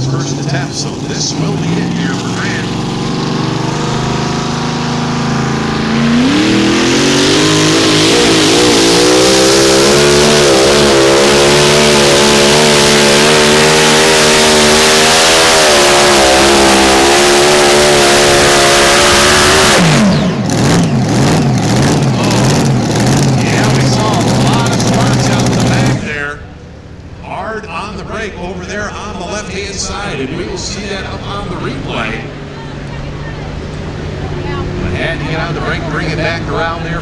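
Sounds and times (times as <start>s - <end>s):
tractor engine at full throttle: 0.0s - 27.1s, 29.5s - 37.0s.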